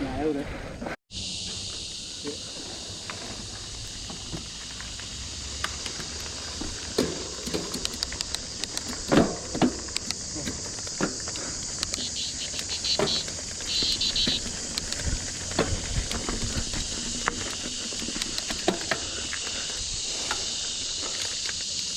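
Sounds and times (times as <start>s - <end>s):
steady high hiss: 1.1s - 21.9s
bike tyres crunching on dirt: 1.2s - 21.9s
bike rattling and knocking: 3.0s - 21.9s.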